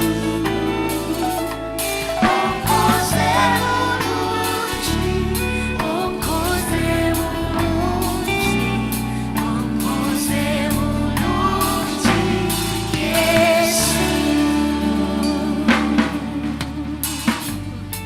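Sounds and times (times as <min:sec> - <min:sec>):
gospel band playing live: 0:00.0 - 0:18.0
singers holding wavering notes: 0:00.0 - 0:18.0
steady bass notes: 0:00.0 - 0:18.0.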